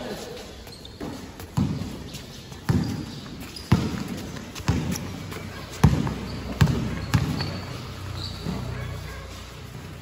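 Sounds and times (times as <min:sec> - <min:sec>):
basketball bouncing on gym floor: 0:00.9 - 0:09.0.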